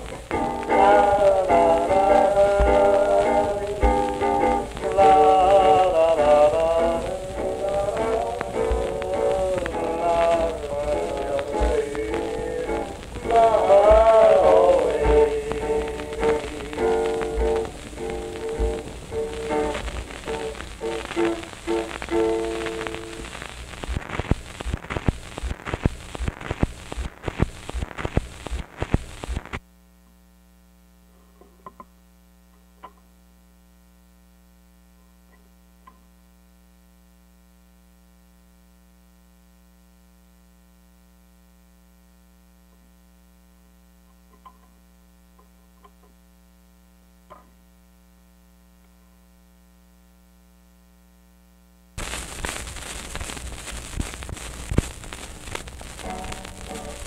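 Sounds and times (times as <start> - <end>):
mains hum: 0.0 - 57.0
record crackle and pops: 0.0 - 57.0.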